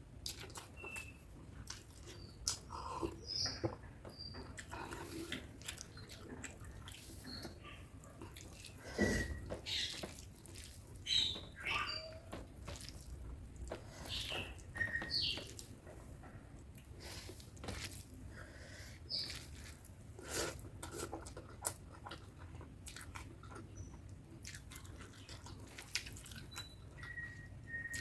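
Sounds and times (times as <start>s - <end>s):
person chewing food: 0.1s - 28.0s.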